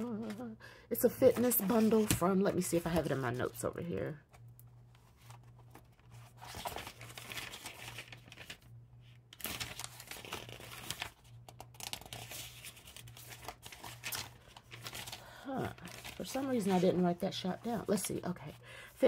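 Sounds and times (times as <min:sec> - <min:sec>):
paper rustling and crinkling: 0:01.0 - 0:03.6, 0:04.3 - 0:08.7, 0:09.3 - 0:18.2.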